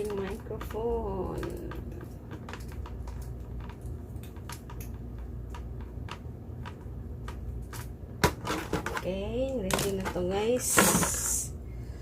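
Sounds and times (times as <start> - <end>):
plastic parts clicking and tapping: 0.0 - 11.2
low steady hum: 0.0 - 12.0.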